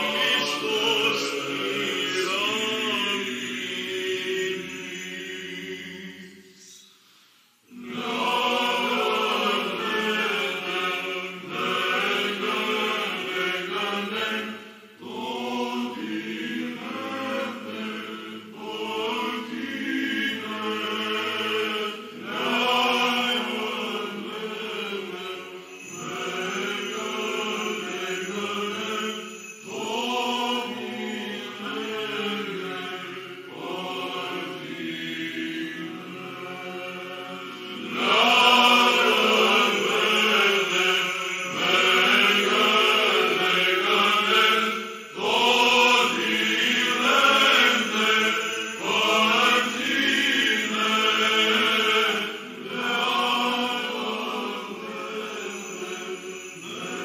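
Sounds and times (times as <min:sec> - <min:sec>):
male choir chanting a cappella: 0:00.0 - 0:06.8, 0:07.7 - 0:57.0.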